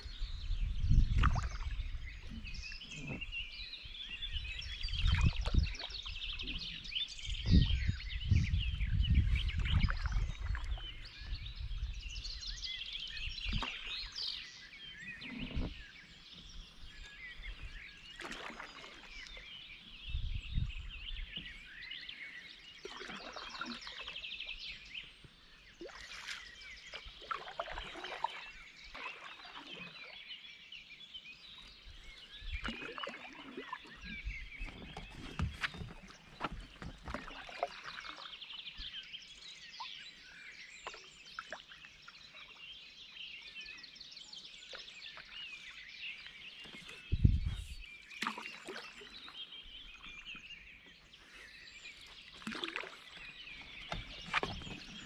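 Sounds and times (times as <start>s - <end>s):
songbirds chirping and warbling: 0.0s - 55.0s.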